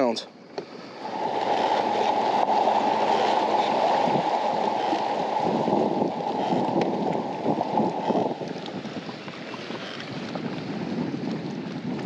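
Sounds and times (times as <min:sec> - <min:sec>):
water lapping against boat hull: 0:00.4 - 0:12.0
wind noise on microphone: 0:00.7 - 0:12.0.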